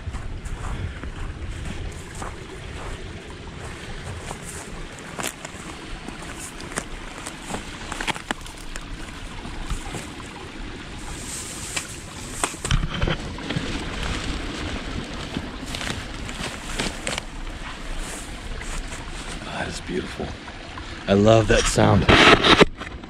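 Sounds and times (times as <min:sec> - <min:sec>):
stream trickling: 0:00.0 - 0:23.0.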